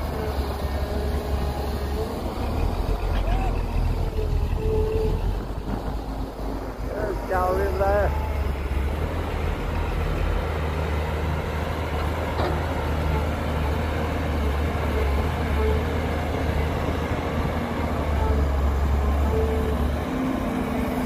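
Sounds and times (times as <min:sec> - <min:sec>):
heavy diesel engine rumbling: 0:00.0 - 0:21.0.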